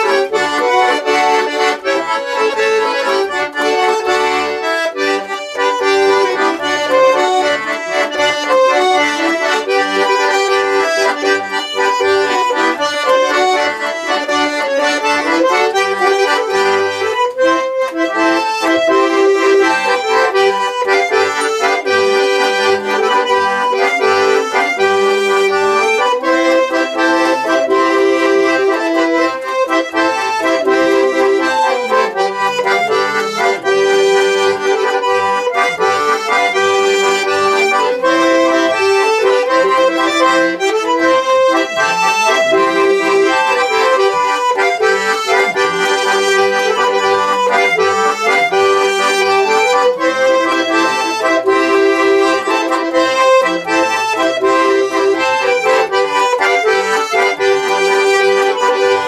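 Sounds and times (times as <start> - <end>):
button accordion folk tune: 0.0 - 59.0.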